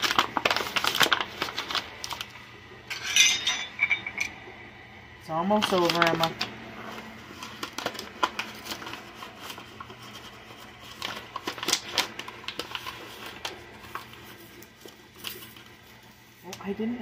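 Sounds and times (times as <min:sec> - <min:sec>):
paper bag rustling and crinkling: 0:00.0 - 0:02.4, 0:05.4 - 0:17.0.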